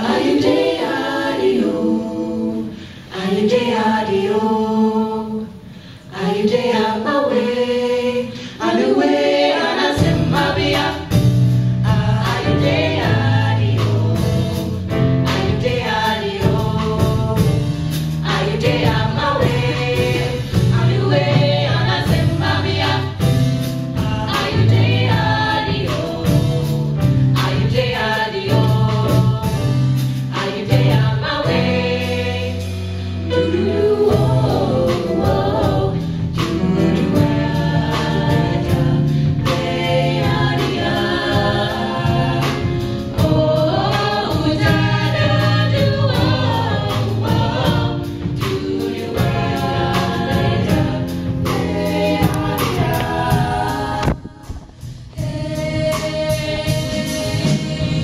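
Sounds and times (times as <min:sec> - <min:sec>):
vocal ensemble singing in harmony: 0:00.0 - 0:58.0
bass line: 0:10.0 - 0:32.9, 0:33.6 - 0:58.0.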